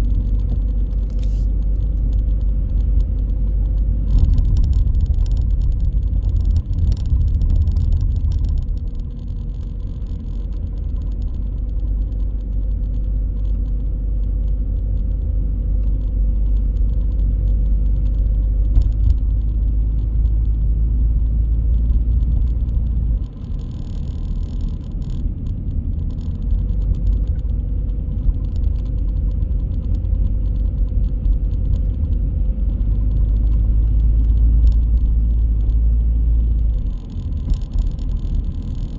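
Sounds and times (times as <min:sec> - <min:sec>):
car engine and tyre rumble: 0:00.0 - 0:38.9
light rattles: 0:00.0 - 0:38.9.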